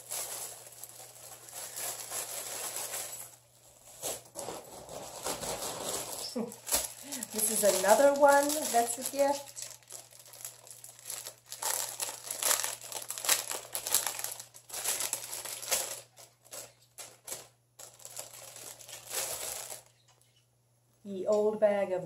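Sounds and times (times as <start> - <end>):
plastic bag crinkling: 0.0 - 20.4.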